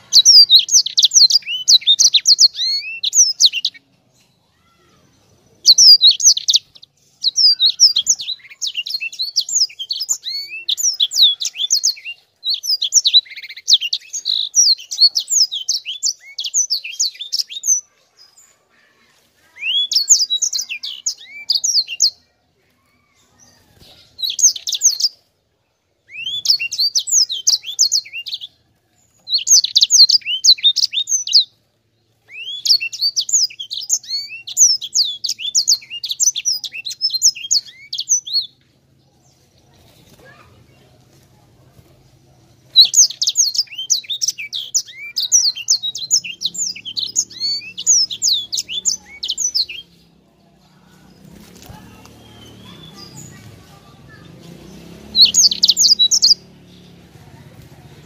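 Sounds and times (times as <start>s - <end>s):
finch twittering song: 0.0s - 18.5s, 19.4s - 22.3s, 23.0s - 25.3s, 26.0s - 41.2s, 41.8s - 58.0s.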